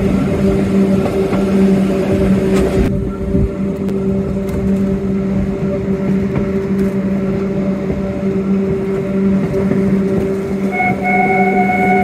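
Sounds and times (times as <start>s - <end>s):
electric railcar motor hum: 0.0s - 12.0s
low rumble: 0.0s - 12.0s.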